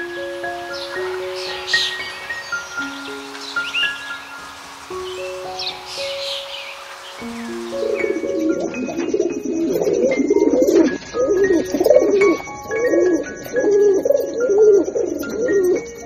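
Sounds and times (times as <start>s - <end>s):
pigeons cooing: 0.0s - 15.8s
light music: 0.0s - 16.0s.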